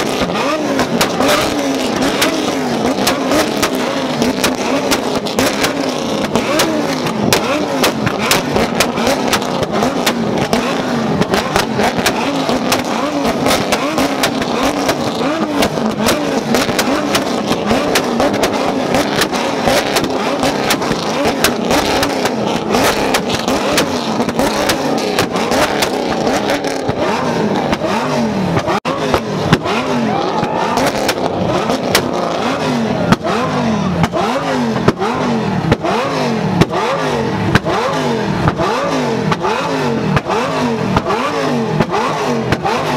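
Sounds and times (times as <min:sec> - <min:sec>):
exhaust pops: 0:00.0 - 0:42.9.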